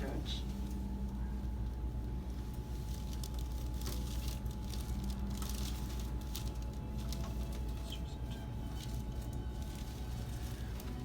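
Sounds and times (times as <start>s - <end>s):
rustling of hands and clothing: 0.0s - 11.0s
steady low hum: 0.0s - 11.0s.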